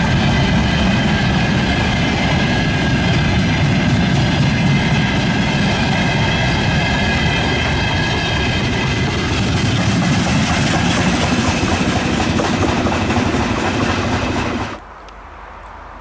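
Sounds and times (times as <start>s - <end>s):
freight train rumbling past: 0.0s - 14.8s.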